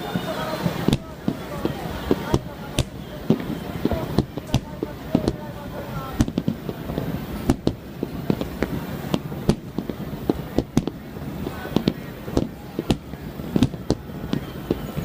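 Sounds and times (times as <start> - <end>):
fireworks bangs: 0.0 - 15.0
rumble of fireworks bursts: 0.0 - 15.0.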